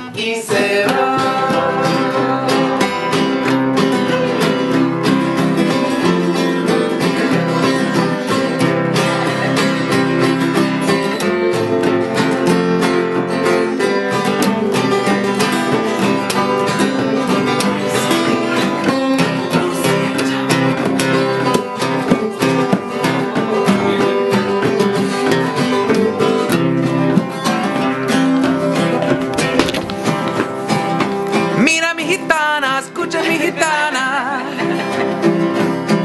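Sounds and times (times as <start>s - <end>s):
acoustic guitars strummed: 0.0s - 36.0s.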